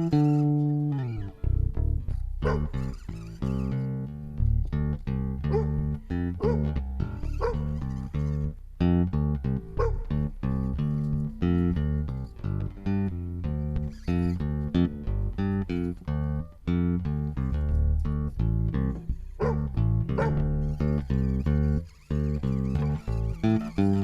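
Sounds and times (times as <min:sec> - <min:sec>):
plucked guitar and bass music: 0:00.0 - 0:24.0.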